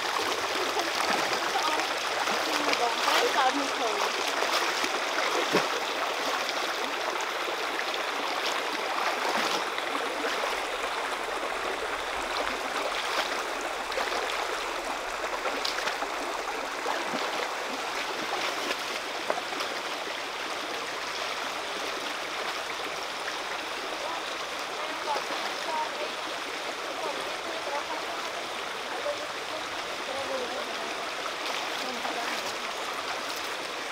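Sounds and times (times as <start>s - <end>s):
stream running over stones: 0.0s - 33.9s.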